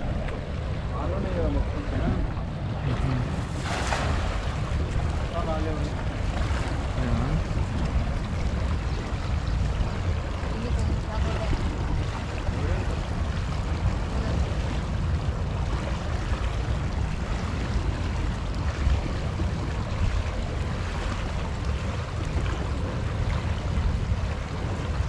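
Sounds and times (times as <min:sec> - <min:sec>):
water rushing: 0:00.0 - 0:25.0
wind buffeting microphone: 0:00.0 - 0:25.0.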